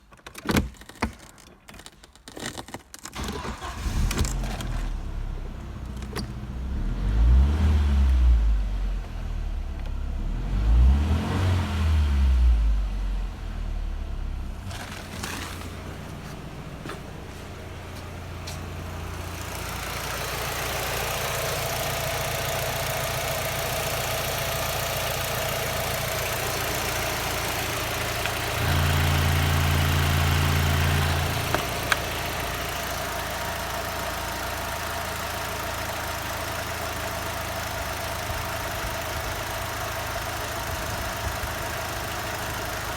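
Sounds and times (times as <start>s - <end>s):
car engine idling: 3.2s - 42.9s
car engine starting and revving: 3.2s - 42.9s.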